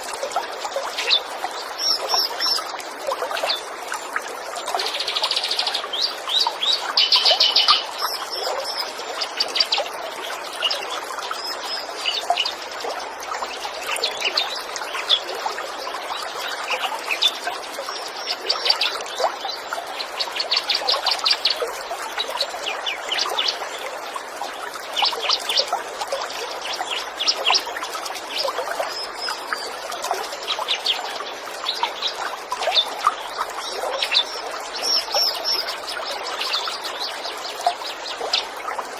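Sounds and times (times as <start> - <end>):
running water trickling: 0.0 - 38.9
small birds chirping and trilling: 0.3 - 3.8, 4.6 - 38.6.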